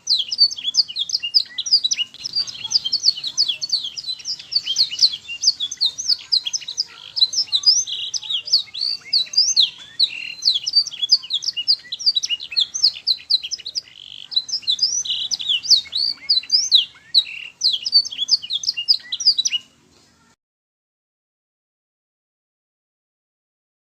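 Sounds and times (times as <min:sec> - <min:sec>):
canary singing chirps and trills: 0:00.0 - 0:19.9.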